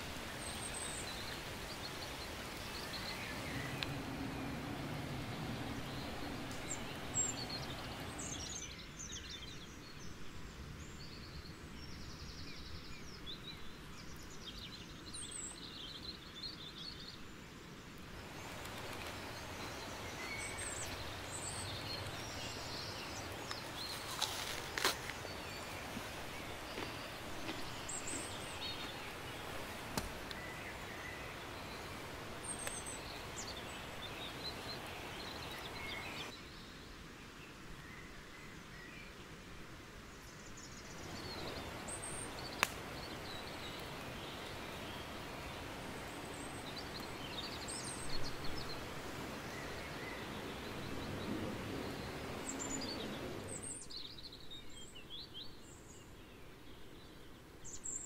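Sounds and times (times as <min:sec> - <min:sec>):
small birds chirping: 0:00.0 - 0:39.2, 0:40.1 - 0:58.0.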